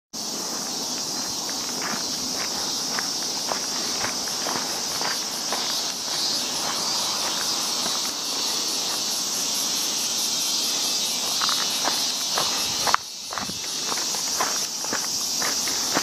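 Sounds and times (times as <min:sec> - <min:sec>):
footsteps on dirt path: 0:00.2 - 0:16.0
insect chorus shrilling: 0:00.2 - 0:16.0.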